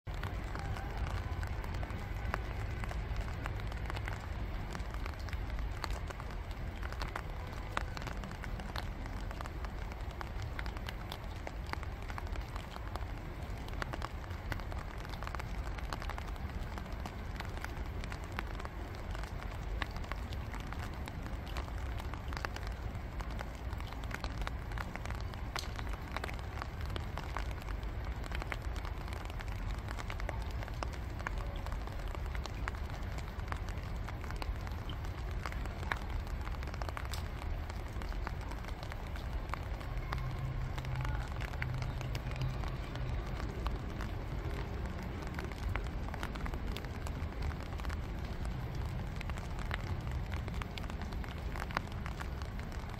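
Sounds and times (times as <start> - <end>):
raindrops pattering on water: 0.0 - 52.9.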